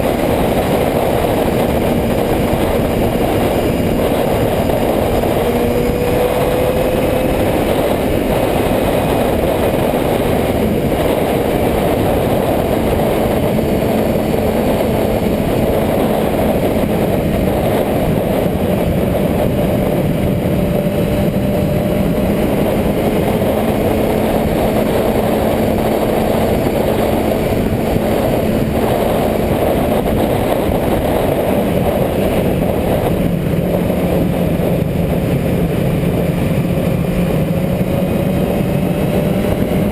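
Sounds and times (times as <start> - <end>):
loud constant rushing noise: 0.0 - 39.9
motorcycle engine running: 0.0 - 39.9.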